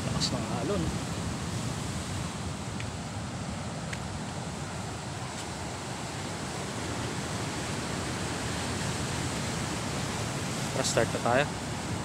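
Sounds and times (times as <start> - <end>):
surf washing over rocks: 0.0 - 12.0.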